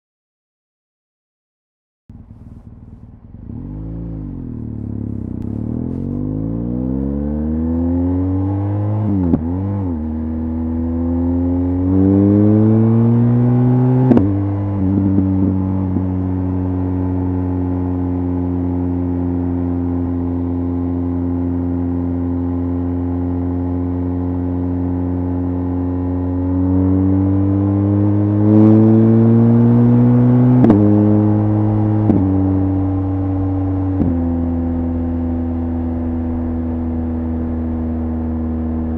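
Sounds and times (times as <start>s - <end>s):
motorcycle engine accelerating: 2.1s - 38.9s.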